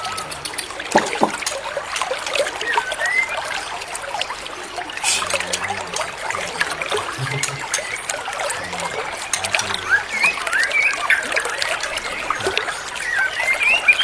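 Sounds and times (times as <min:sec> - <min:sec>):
whistled bird notes: 0:00.0 - 0:04.1, 0:05.0 - 0:14.0
water trickling: 0:00.0 - 0:14.0.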